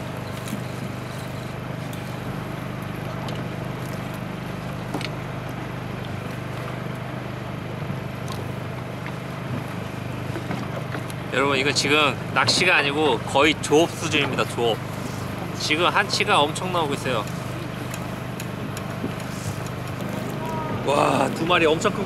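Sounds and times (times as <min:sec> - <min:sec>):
boat engine idling: 0:00.0 - 0:22.0.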